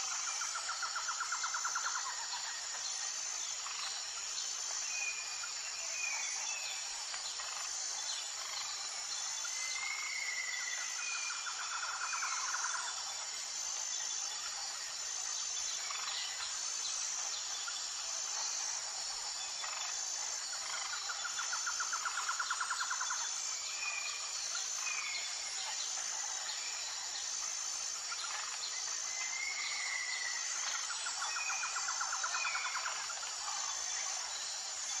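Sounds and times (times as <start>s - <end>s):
pulsing insect drone: 0.0s - 35.0s.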